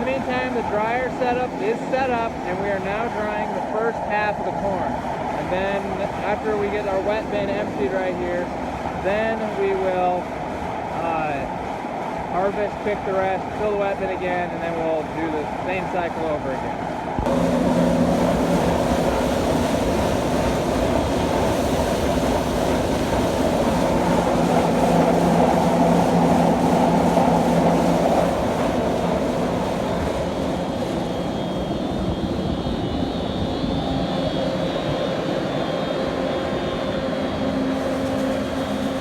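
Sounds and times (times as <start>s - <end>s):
faint high whine: 0.0s - 10.2s, 12.2s - 39.0s
large fan droning: 0.0s - 39.0s.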